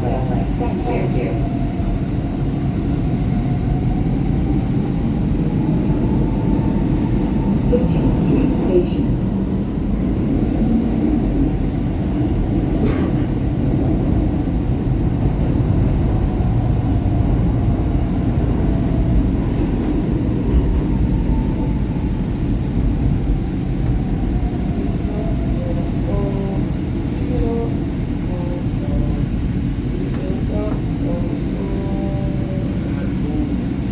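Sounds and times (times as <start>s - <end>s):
subway train rumbling on rails: 0.0s - 33.9s.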